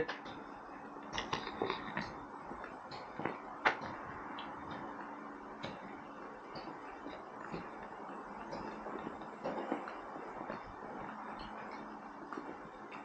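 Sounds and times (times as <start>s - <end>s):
faint clicks and light taps: 0.0s - 13.0s.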